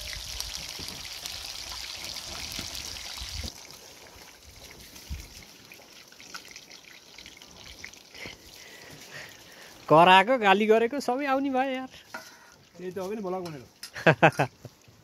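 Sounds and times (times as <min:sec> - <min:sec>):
fish sizzling in hot oil: 0:00.0 - 0:14.5.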